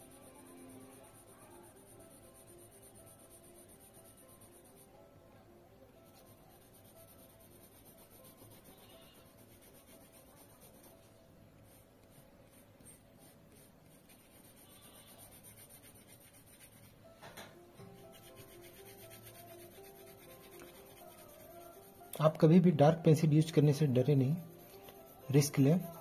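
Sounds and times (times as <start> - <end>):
pencil scratching on paper: 0.0 - 5.0, 6.1 - 17.0, 17.8 - 22.4, 23.4 - 26.0.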